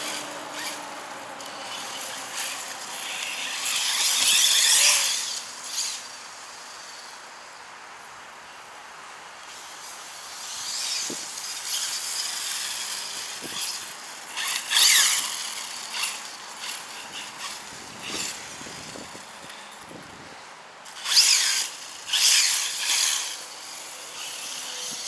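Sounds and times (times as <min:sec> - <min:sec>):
toy truck electric motor whining: 0:00.0 - 0:07.2, 0:09.4 - 0:20.2, 0:20.8 - 0:25.0.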